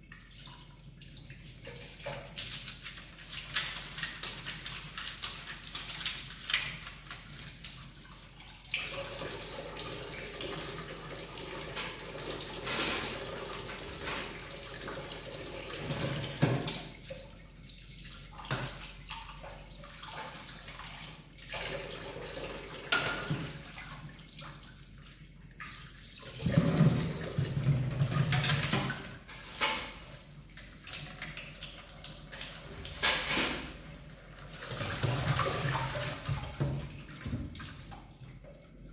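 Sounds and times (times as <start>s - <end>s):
tap water running into metal sink: 0.0s - 24.7s, 26.2s - 38.9s.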